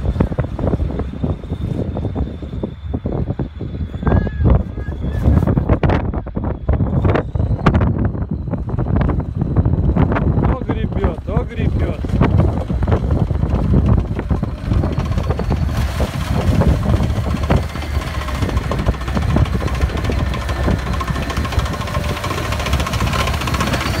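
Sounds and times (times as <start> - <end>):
diesel engine running hard: 0.0 - 24.0.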